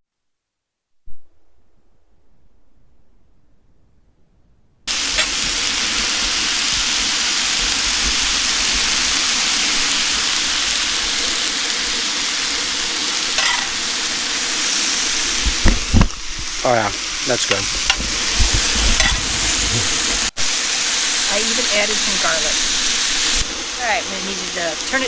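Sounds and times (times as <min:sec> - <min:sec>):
vegetables sizzling in a pan: 0:04.9 - 0:25.0.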